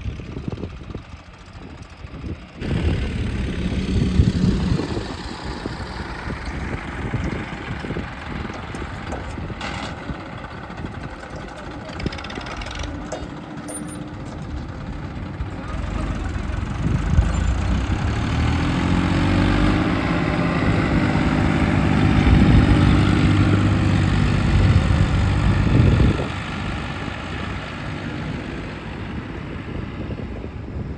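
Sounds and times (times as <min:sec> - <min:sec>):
diesel machine engine running: 0:00.0 - 0:30.9.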